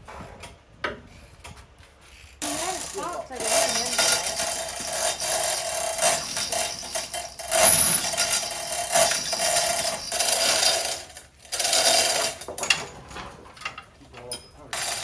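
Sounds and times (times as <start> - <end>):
metal tools clinking and scraping: 2.0 - 15.0.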